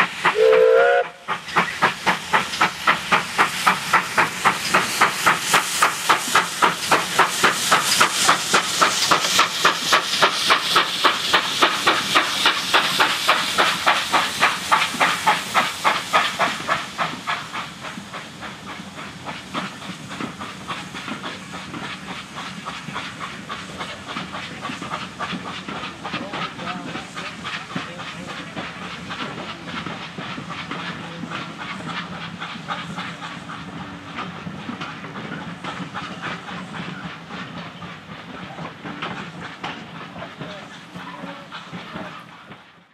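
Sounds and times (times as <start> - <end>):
coaches rattling over rails: 0.0 - 42.8
steam hiss: 0.0 - 42.9
steam locomotive exhaust beats: 0.0 - 42.9.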